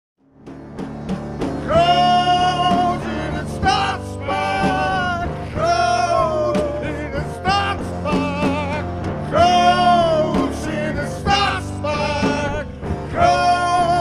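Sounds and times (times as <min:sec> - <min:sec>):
rock song with singing: 0:00.9 - 0:14.0.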